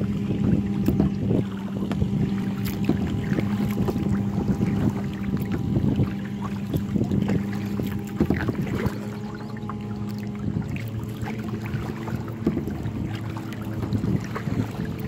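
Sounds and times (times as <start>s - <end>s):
water splashing around kayak: 0.0s - 15.0s.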